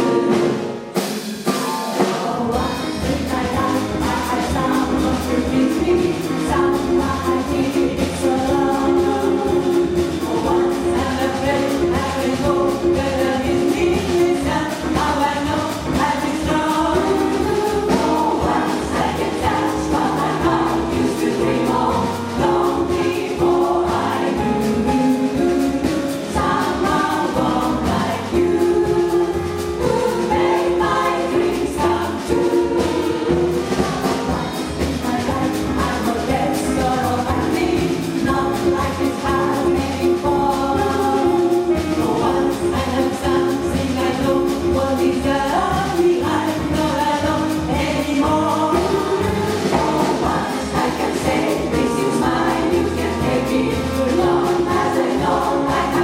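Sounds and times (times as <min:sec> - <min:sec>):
jazz vocal chorus singing: 0:00.0 - 0:56.0
piano bass and drums: 0:00.0 - 0:56.0.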